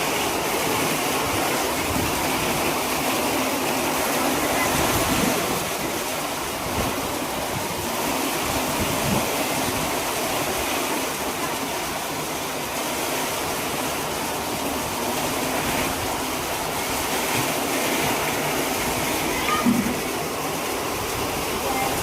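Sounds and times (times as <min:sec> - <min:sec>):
rain pouring: 0:00.0 - 0:22.0.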